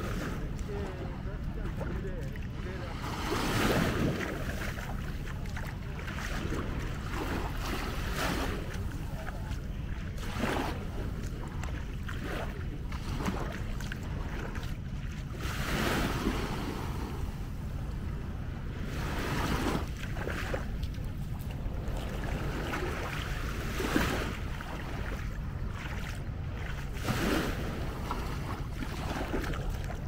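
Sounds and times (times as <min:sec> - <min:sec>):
sea waves washing onto beach: 0:00.0 - 0:30.0
wind rumbling on microphone: 0:00.0 - 0:30.0.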